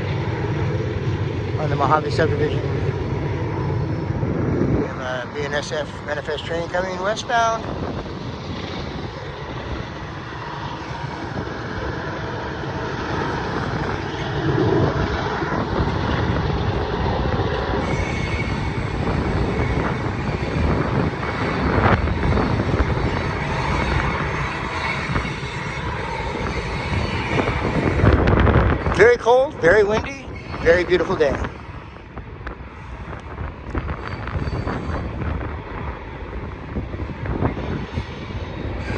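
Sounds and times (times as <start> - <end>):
freight train rumbling past: 0.0 - 38.9
wind on microphone: 0.0 - 38.9.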